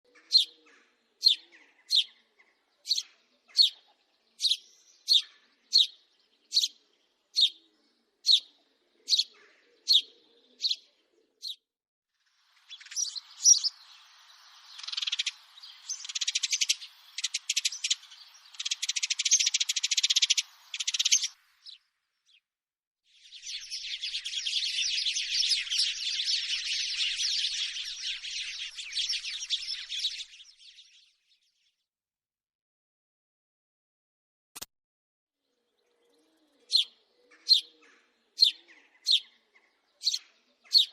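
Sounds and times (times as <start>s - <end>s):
sparrow chirping: 0.1s - 11.6s, 12.4s - 22.5s, 23.2s - 31.2s, 35.7s - 40.9s.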